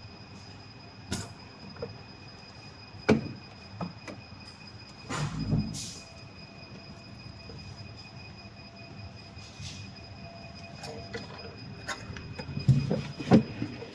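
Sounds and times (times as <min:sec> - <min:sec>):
faint high whine: 0:00.0 - 0:13.9.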